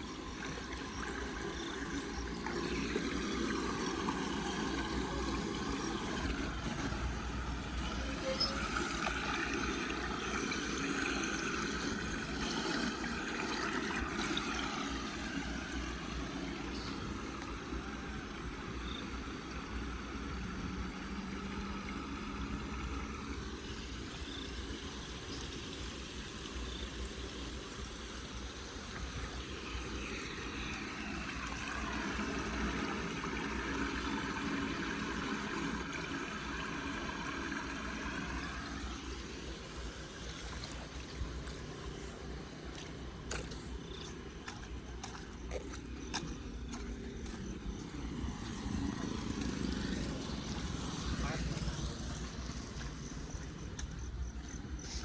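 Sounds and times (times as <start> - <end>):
water rushing into storm drain: 0.0 - 55.0.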